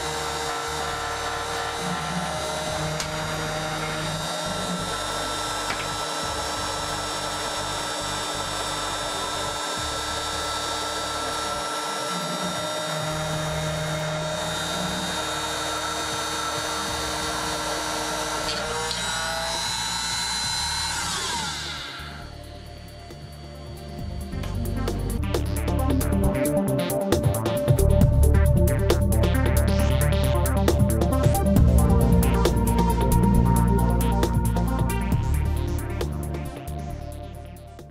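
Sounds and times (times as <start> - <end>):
milling machine spindle whine: 0.0 - 37.3
stepper motor tones: 0.0 - 37.9.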